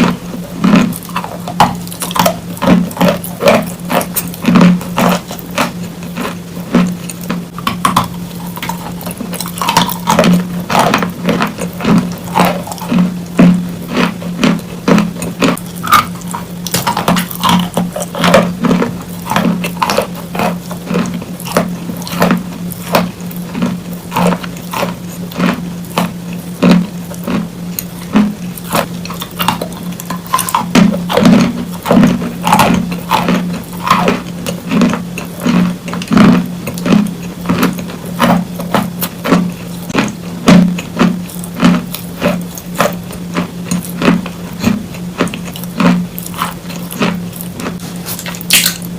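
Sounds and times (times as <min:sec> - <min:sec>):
chewing and crunching chalk: 0:00.0 - 0:48.9.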